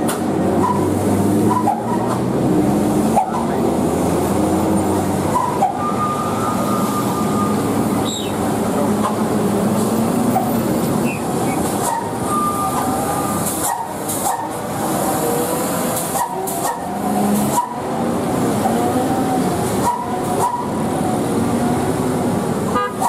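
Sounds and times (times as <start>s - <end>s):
truck diesel engines climbing: 0.0s - 23.0s.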